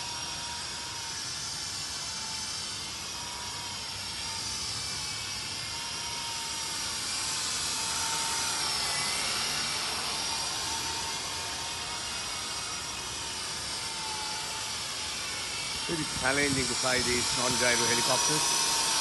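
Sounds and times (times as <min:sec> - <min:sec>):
toy helicopter motors whining: 0:00.0 - 0:19.0.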